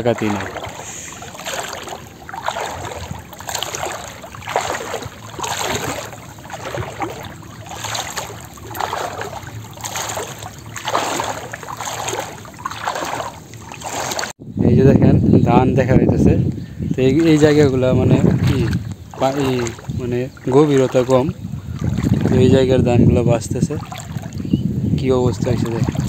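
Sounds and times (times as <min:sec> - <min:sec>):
water sloshing and splashing: 0:00.0 - 0:14.4, 0:16.9 - 0:26.0.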